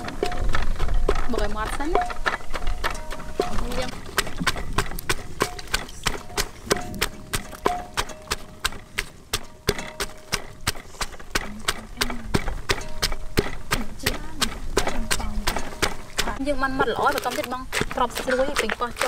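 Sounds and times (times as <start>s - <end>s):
pestle pounding in clay mortar: 0.0s - 19.0s.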